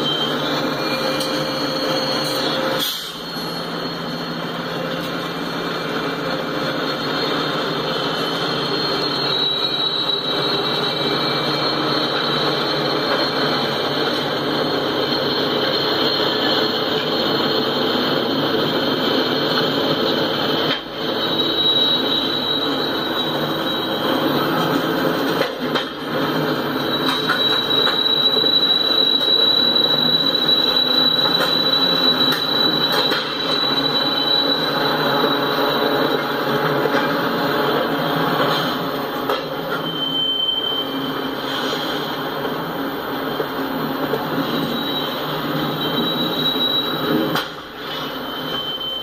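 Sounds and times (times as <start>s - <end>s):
diesel locomotives rumbling: 0.0s - 49.0s
high wheel squeal: 0.0s - 49.0s
train cars rolling over rails: 0.0s - 49.0s.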